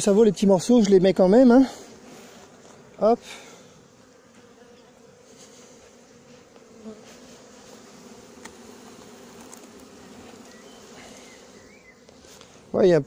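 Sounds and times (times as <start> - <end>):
bees buzzing: 0.1 - 13.0.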